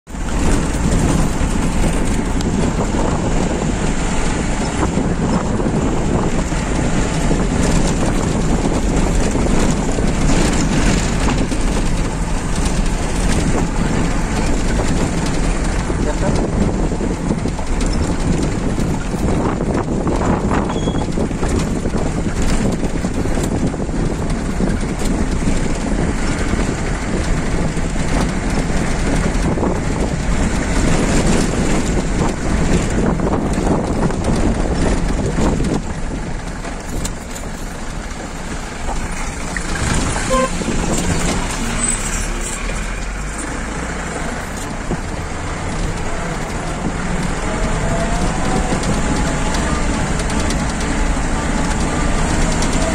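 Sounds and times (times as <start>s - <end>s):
knocks and rattles from road: 0.1s - 52.9s
vehicle engine running: 0.1s - 52.9s.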